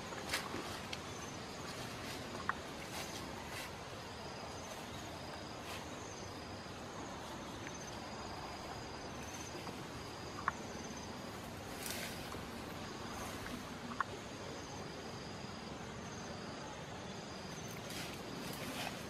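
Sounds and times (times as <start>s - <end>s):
leaves rustling: 0.0s - 14.1s, 17.4s - 19.0s
insects trilling: 0.0s - 19.0s
steady outdoor hiss: 0.0s - 19.0s.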